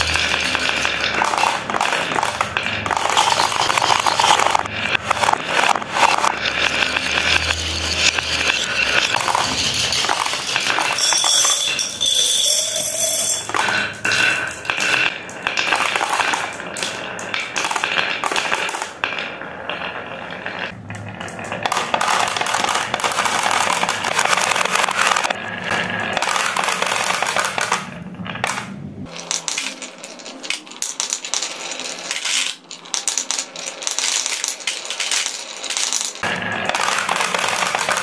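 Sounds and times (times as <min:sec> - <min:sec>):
marbles rattling against plastic: 0:00.0 - 0:19.8, 0:21.2 - 0:38.0
marbles clattering on wooden tracks: 0:00.0 - 0:38.0.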